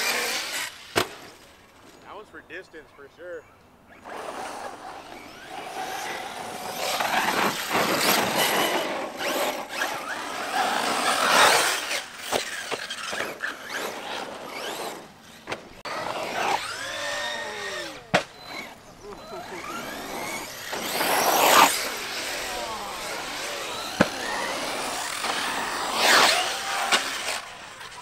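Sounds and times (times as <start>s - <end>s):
electric motors whining: 0.0s - 0.9s, 3.9s - 28.0s.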